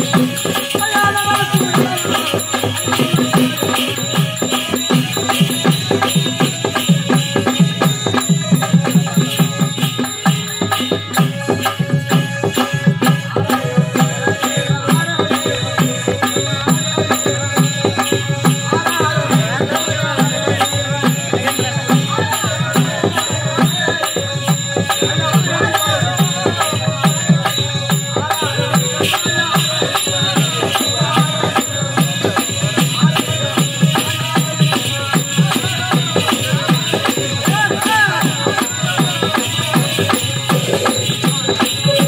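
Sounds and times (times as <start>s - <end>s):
fast drum beat: 0.0s - 42.0s
jingling rattling percussion: 0.0s - 42.0s.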